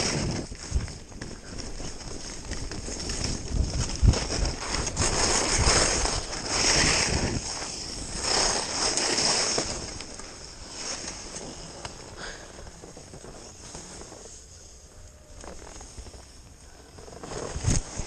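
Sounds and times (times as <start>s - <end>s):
skis scraping over hard snow: 0.0s - 14.5s, 17.0s - 18.0s.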